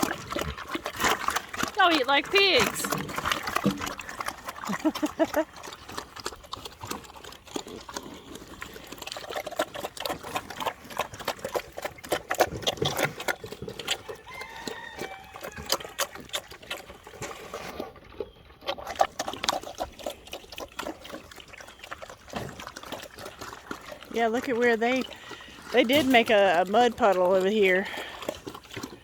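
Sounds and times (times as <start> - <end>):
pigs chomping and slurping: 0.0 - 29.0.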